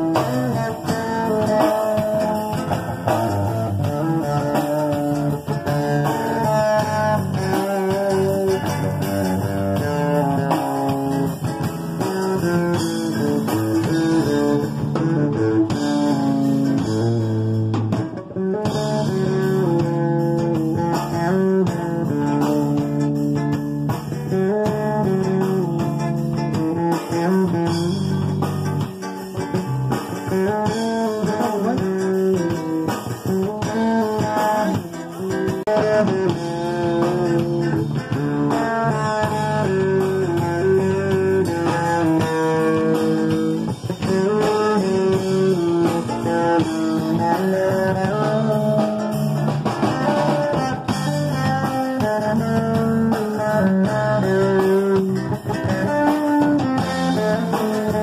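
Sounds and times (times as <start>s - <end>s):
acoustic guitar: 0.0s - 58.0s
bass guitar: 0.0s - 58.0s
drum kit: 0.0s - 58.0s
electric guitar melody: 0.0s - 58.0s.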